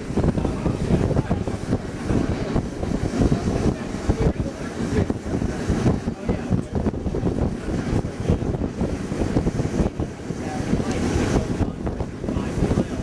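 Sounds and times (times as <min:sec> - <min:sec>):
train rumbling on rails: 0:00.0 - 0:13.0
wind buffeting microphone: 0:00.0 - 0:13.0.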